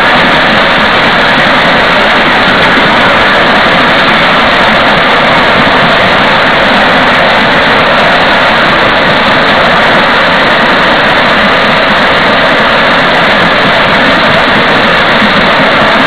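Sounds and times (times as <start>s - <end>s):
miniature train rolling on rails: 0.0s - 16.0s.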